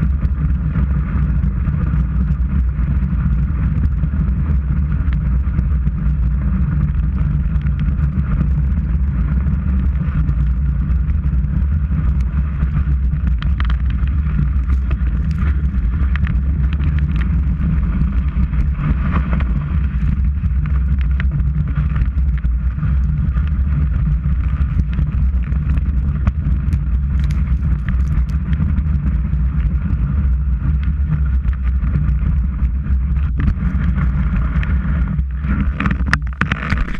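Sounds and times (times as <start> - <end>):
skis scraping over packed snow: 0.0 - 36.9.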